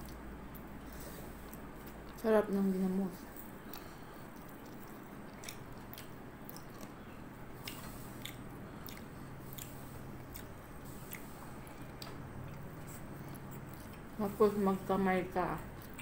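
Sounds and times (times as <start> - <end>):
faint steady hum: 0.0 - 16.0
person chewing with wet smacks: 0.0 - 16.0.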